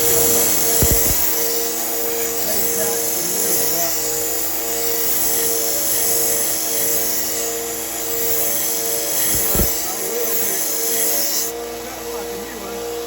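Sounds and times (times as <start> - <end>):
belt sander motor hum: 0.0 - 13.0
knife grinding on sander belt: 0.0 - 13.0.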